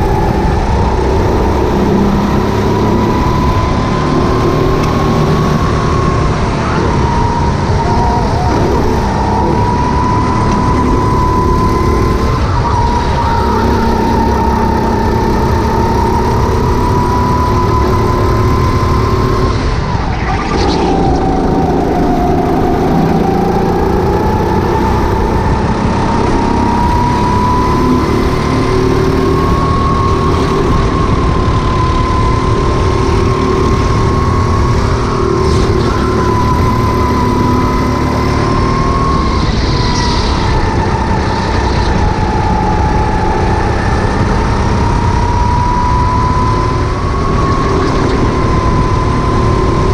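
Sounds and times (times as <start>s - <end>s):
go-kart engine running hard: 0.0s - 49.9s
steady rushing noise: 0.0s - 49.9s.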